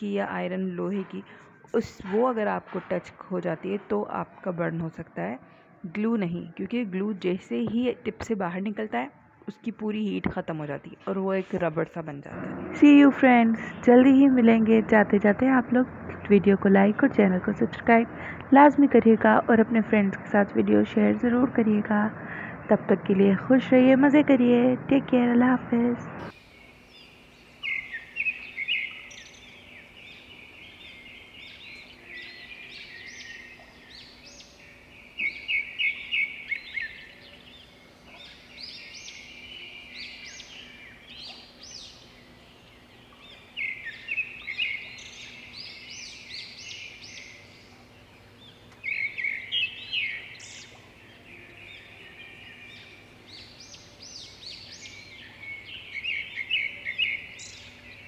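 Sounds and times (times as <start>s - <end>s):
birds chirping: 0.0s - 58.0s
faint steady hum: 0.0s - 58.0s.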